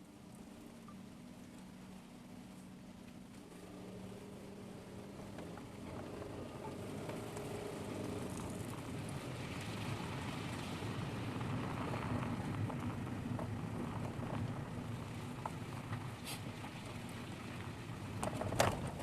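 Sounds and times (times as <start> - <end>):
car engine hum: 0.0 - 19.0
tyre and road noise: 1.3 - 19.0.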